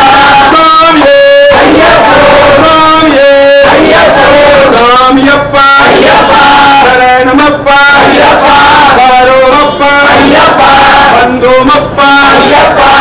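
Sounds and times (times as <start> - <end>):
men singing a chant: 0.0 - 13.0.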